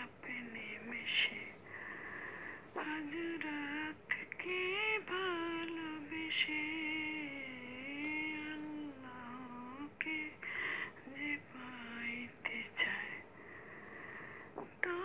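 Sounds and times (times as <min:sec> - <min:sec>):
woman singing devotional song: 0:00.0 - 0:13.4, 0:14.6 - 0:15.0.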